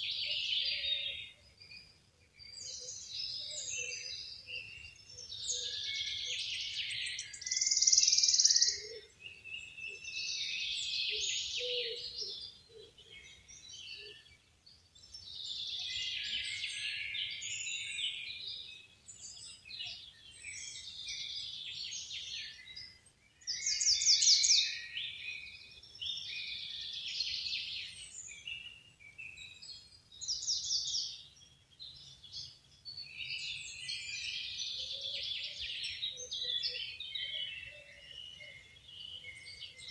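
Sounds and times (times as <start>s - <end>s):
songbirds singing and trilling: 0.0s - 39.9s.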